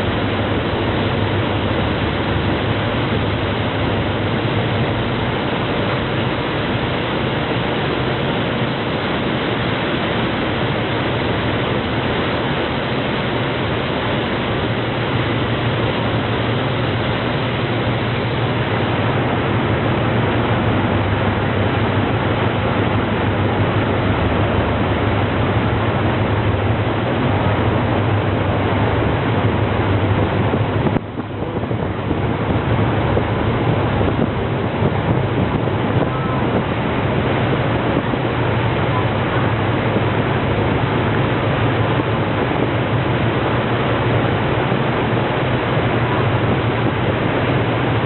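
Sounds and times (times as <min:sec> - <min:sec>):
hydrofoil turbines and water jets rushing: 0:00.0 - 0:48.0
low hum: 0:00.0 - 0:48.0.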